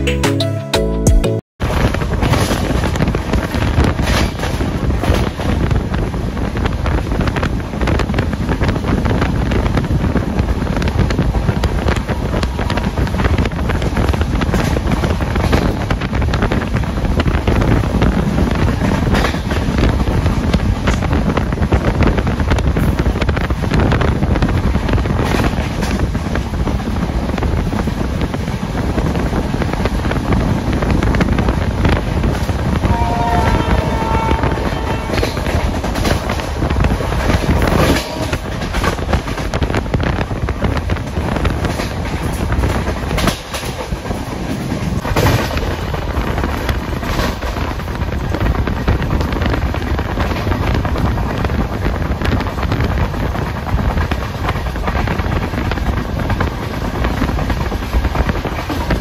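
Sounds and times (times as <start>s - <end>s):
train wheels rumbling on rails: 1.6s - 59.0s
wind buffeting microphone: 1.6s - 59.0s.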